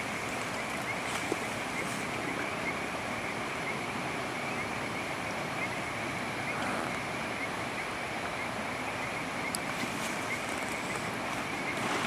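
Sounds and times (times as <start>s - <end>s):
high continuous chirring: 0.0s - 12.0s
steady rain falling: 0.0s - 12.0s.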